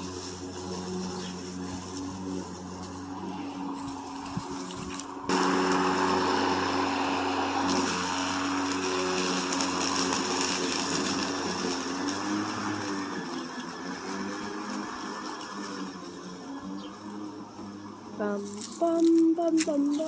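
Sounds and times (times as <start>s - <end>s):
lawn mower running: 0.0s - 20.0s.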